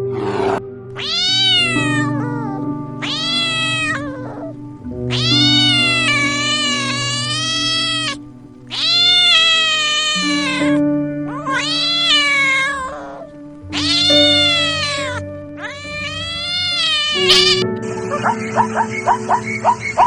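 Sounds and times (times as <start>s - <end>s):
animal long rising and falling cries: 0.0s - 17.6s
background music with held notes: 0.0s - 20.0s.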